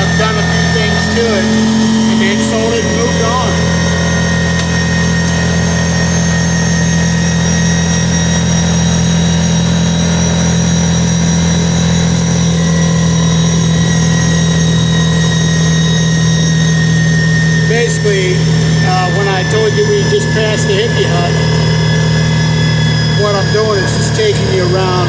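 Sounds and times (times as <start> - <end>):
vehicle engine drone with whine: 0.0 - 25.0.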